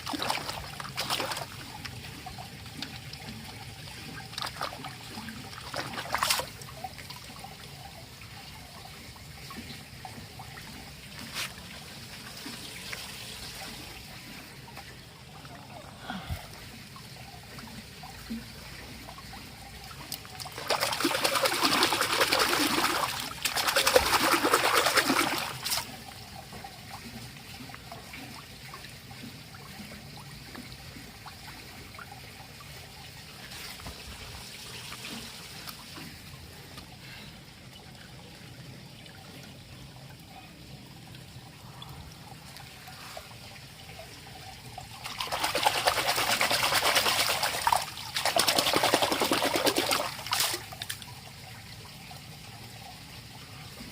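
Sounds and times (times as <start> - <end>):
water gushing: 0.0 - 53.9
water trickling: 0.0 - 53.9.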